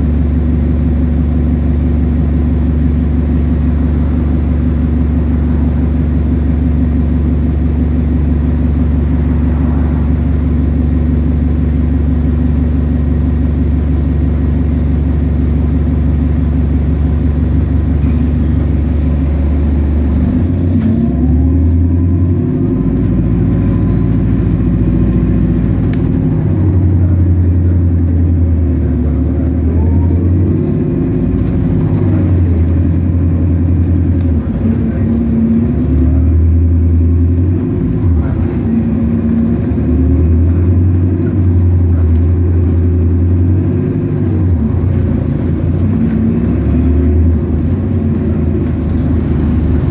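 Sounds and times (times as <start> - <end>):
bus engine accelerating: 0.0 - 49.9.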